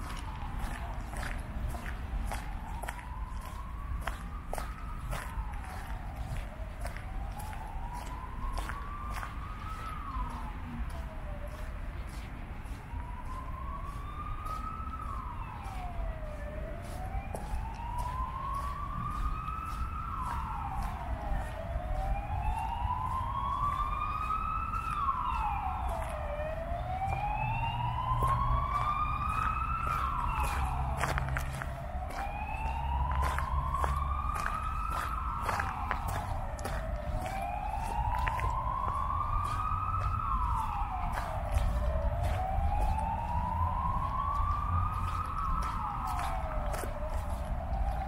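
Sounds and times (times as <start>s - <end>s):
emergency siren wailing: 0.0s - 48.0s
low traffic rumble: 0.0s - 48.0s.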